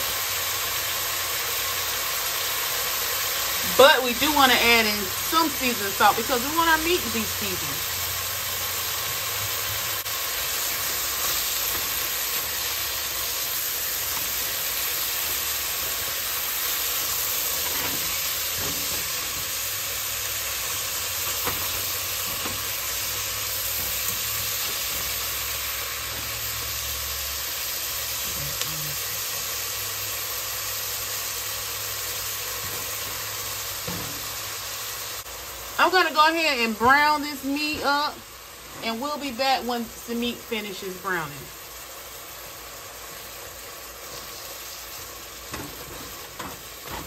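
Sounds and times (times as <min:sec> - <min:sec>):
meat sizzling in a pot: 0:00.0 - 0:47.0.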